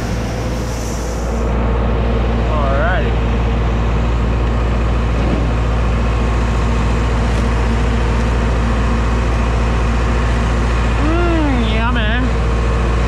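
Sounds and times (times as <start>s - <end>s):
machinery humming and rattling: 0.0s - 13.0s.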